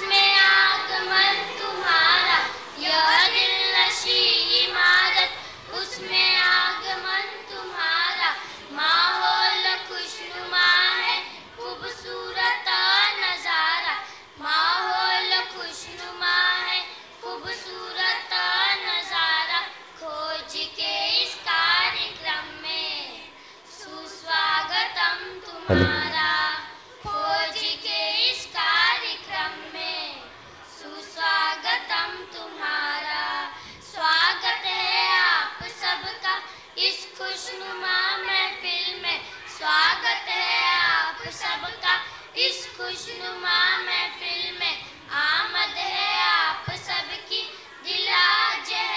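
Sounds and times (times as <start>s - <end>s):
girls singing together: 0.0s - 48.9s.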